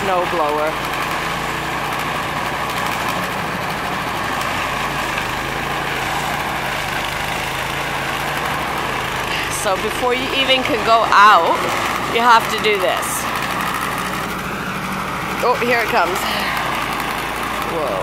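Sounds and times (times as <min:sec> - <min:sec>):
snowblower engine running: 0:00.0 - 0:18.0.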